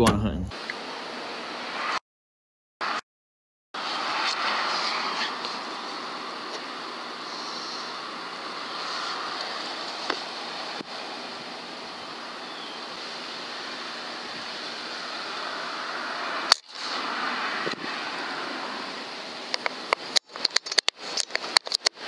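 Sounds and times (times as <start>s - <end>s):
outdoor background hiss: 0.0s - 1.9s, 3.8s - 22.0s.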